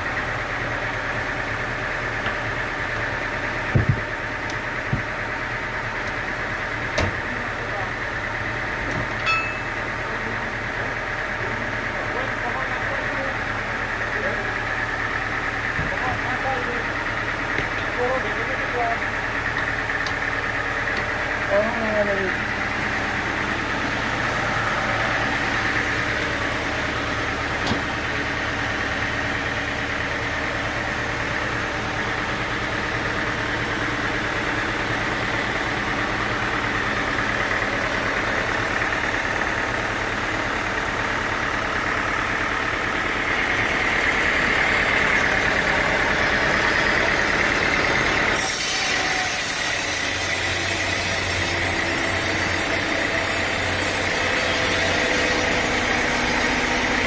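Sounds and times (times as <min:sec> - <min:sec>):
high machinery hum: 0:00.0 - 0:57.0
sawmill machinery drone: 0:00.0 - 0:57.0.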